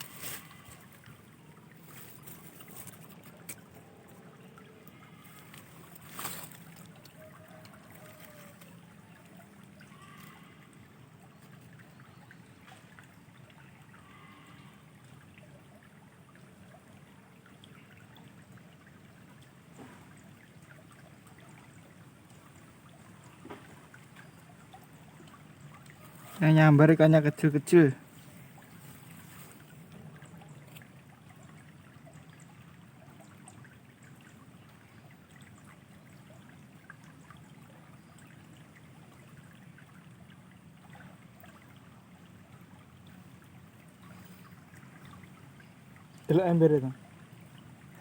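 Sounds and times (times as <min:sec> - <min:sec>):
faint water trickling: 0:00.0 - 0:48.0.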